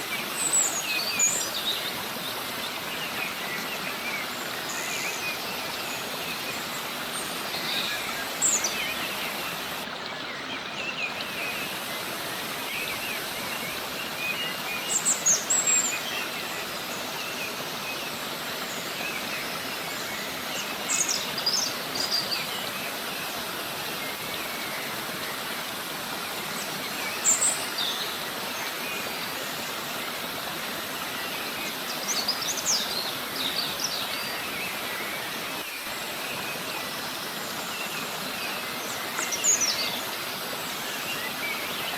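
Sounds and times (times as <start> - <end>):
river cascade rushing: 0.0 - 41.9
small birds chirping: 0.0 - 41.9.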